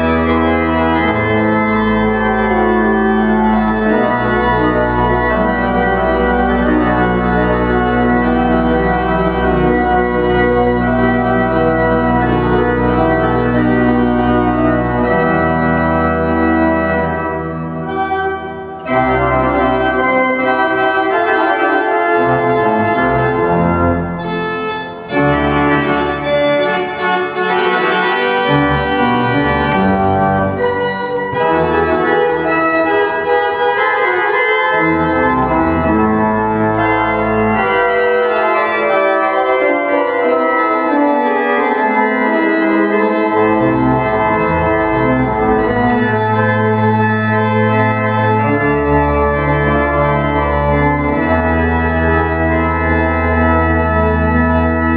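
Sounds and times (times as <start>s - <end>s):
deep organ pedal bass: 0.0s - 54.9s
pipe organ chords: 0.0s - 54.9s.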